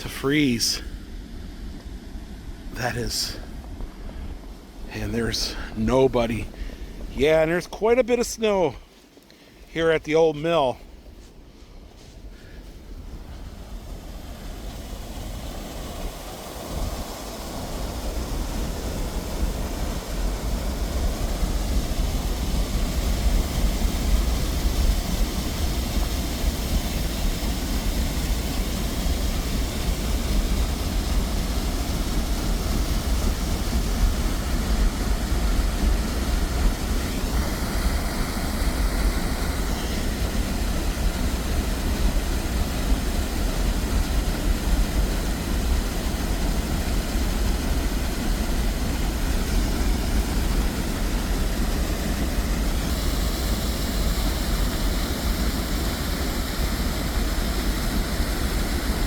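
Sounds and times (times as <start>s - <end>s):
steady rushing noise: 0.0s - 59.0s.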